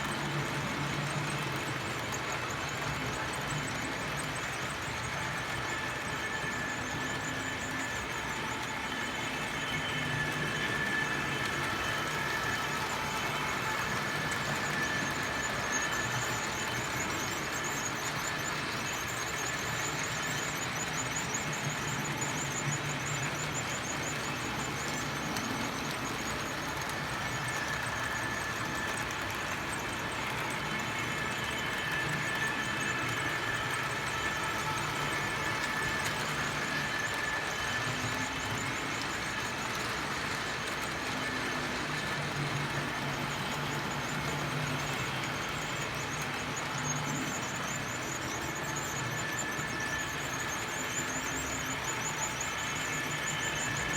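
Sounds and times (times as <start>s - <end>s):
faint high whine: 0.0s - 53.9s
model train motors whirring: 0.0s - 53.9s.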